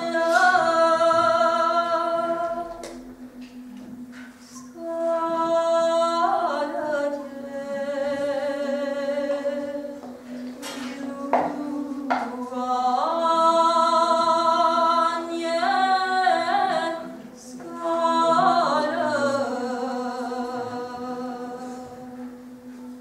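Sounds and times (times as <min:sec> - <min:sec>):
woman singing a lament: 0:00.0 - 0:02.9, 0:04.7 - 0:10.0, 0:10.6 - 0:22.4.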